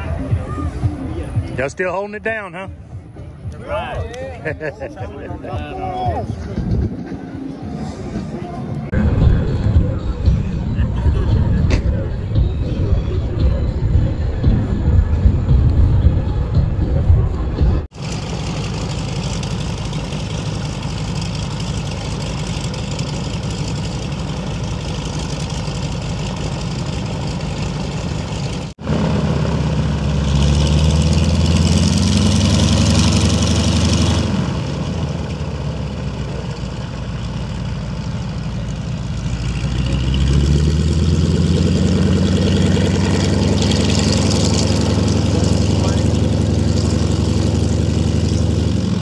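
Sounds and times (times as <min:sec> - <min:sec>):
propeller aircraft engines running: 0:00.9 - 0:49.0.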